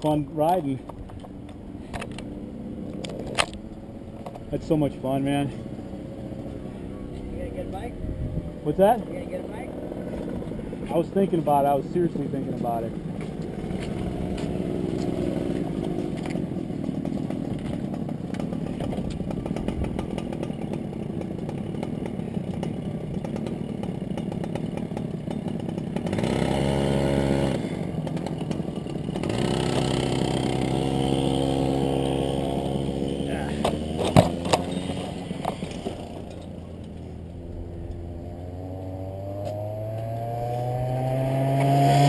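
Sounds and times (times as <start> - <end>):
motorcycle engine idling: 0.0 - 26.2, 27.6 - 39.4
steady clear engine note: 1.4 - 20.0, 20.6 - 42.0.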